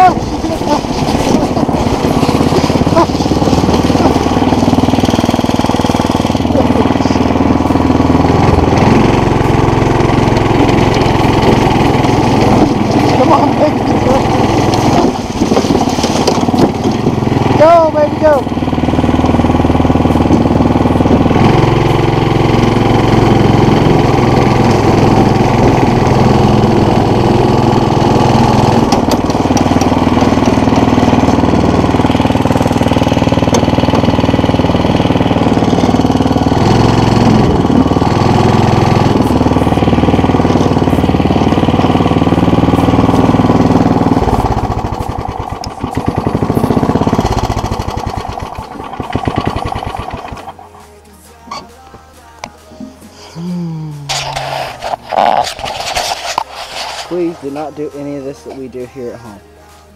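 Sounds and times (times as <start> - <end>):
go-kart engine running: 0.0 - 51.6, 54.0 - 58.8.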